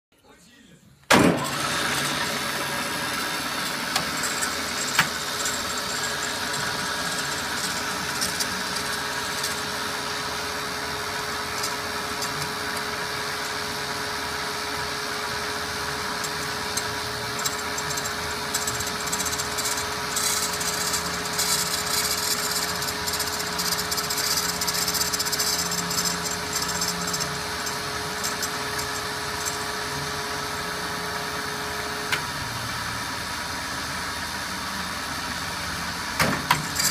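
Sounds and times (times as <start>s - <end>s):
band saw hum: 1.1s - 36.9s.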